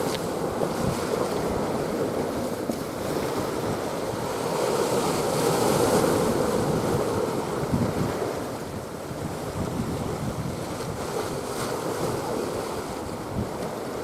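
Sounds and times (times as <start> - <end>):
sea water rushing: 0.0 - 14.0
wind buffeting microphone: 0.0 - 14.0.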